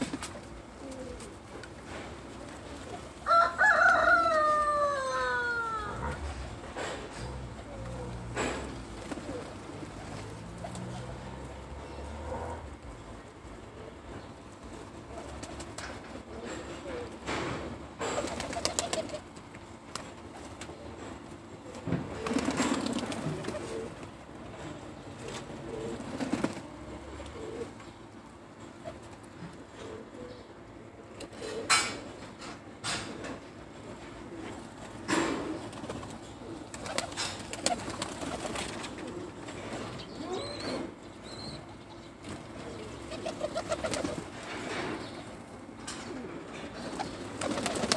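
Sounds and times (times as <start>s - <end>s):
birds pecking on paving stones: 0.0s - 17.4s, 18.0s - 40.8s, 41.8s - 47.9s
pigeons cooing: 0.0s - 47.9s.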